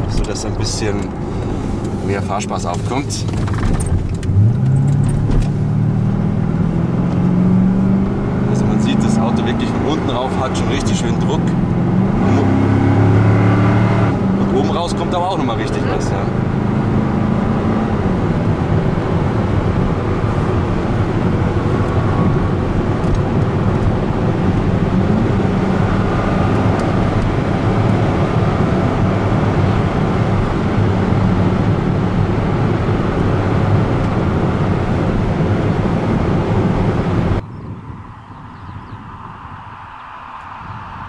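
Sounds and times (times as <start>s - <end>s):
car engine pulling hard: 0.0s - 41.0s.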